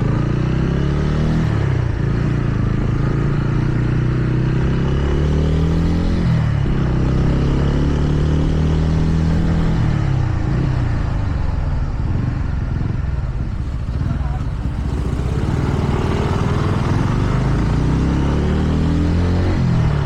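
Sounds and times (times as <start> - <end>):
motorcycle engine revving: 0.0 - 20.0
wind and road noise: 0.0 - 20.0.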